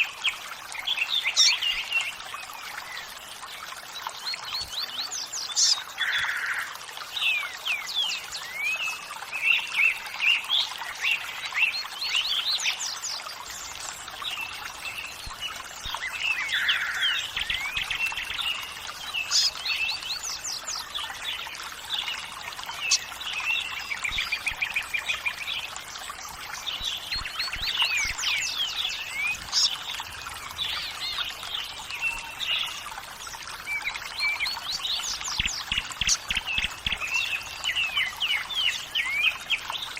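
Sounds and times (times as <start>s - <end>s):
running water: 0.0s - 39.9s
songbirds chirping: 0.0s - 39.9s.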